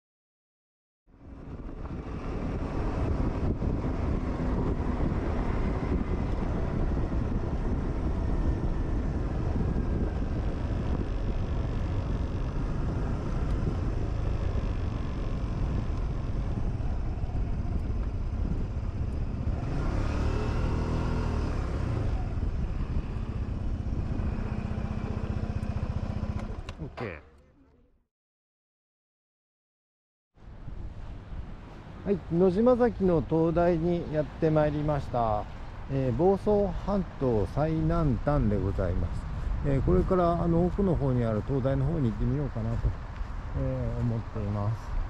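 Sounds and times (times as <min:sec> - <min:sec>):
scooter engine and wind rumble: 0:01.1 - 0:27.2, 0:30.4 - 0:45.0.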